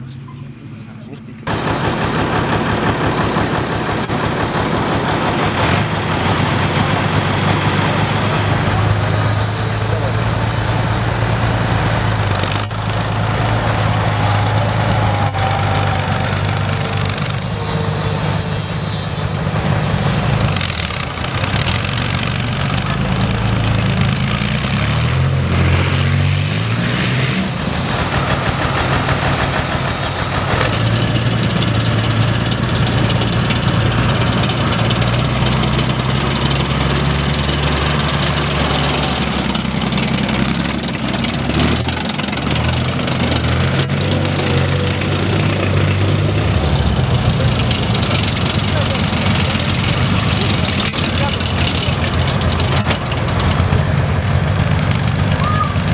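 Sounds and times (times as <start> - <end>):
armoured vehicle engines running: 0.0 - 55.9.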